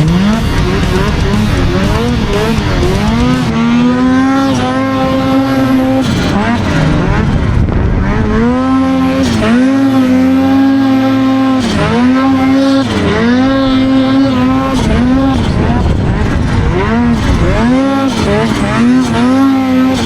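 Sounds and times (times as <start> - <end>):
snowmobile engine revving: 0.0 - 20.0.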